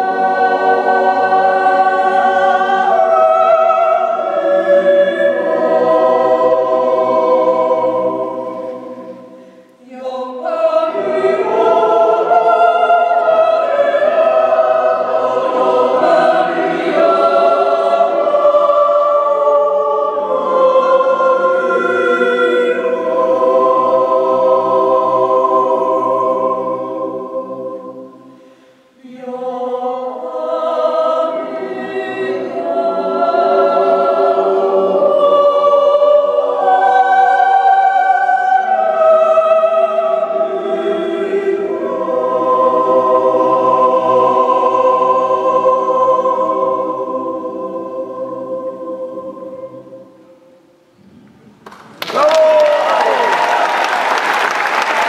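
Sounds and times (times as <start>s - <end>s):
choir singing a yodel: 0.0s - 51.2s, 52.0s - 55.0s.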